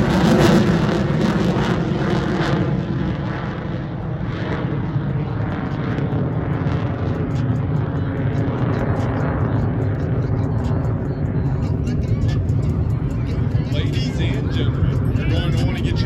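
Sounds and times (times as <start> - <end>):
jet roar: 0.0 - 16.0.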